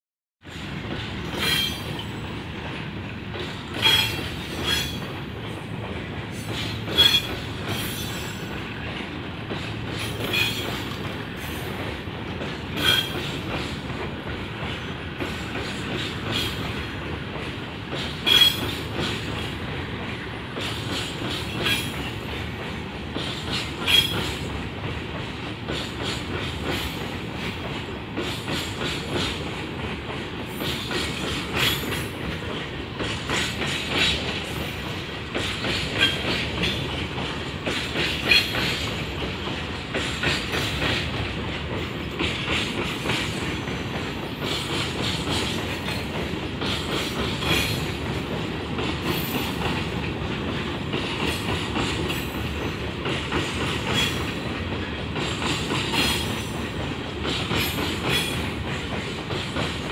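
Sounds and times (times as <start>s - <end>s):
freight train rumbling past: 0.4s - 59.9s
wheels clacking over rail joints: 0.4s - 59.9s.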